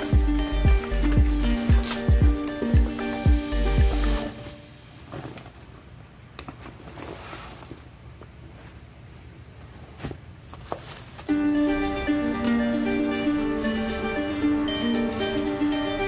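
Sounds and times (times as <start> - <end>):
plastic and fabric rustling: 0.0 - 3.2, 3.9 - 11.3, 13.0 - 16.0.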